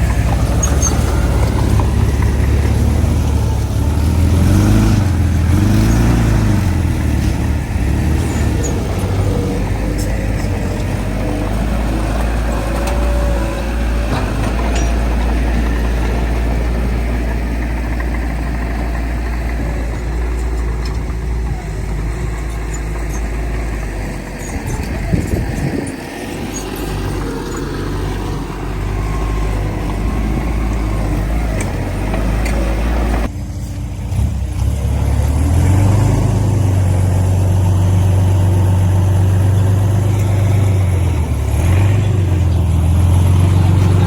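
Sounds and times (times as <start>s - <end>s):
heavy diesel engine droning: 0.0s - 44.0s.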